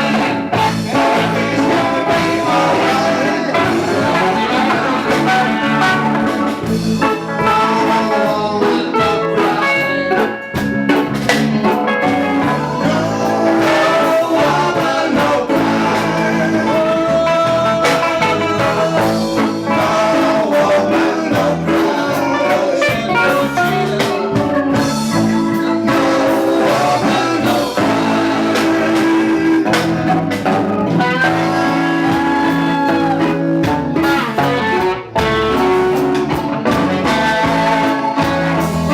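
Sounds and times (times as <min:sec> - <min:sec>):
electric guitar: 0:00.0 - 0:38.9
reggae band playing: 0:00.0 - 0:38.9.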